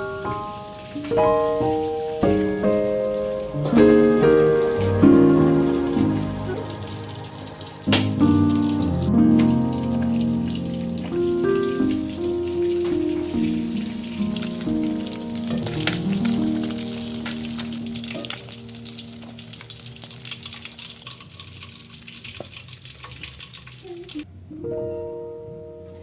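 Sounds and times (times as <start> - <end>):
soft background music: 0.0 - 20.2, 24.3 - 26.0
food sizzling in oil: 0.0 - 24.2.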